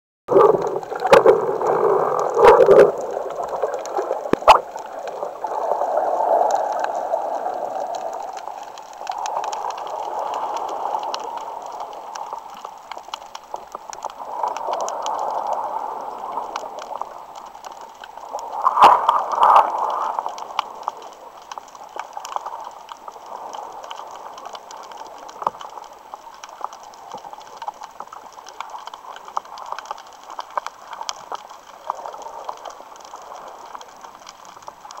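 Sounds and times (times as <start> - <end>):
muffled underwater water noise: 0.3 - 35.0
underwater gurgling: 0.3 - 35.0
faint clicks: 0.4 - 35.0.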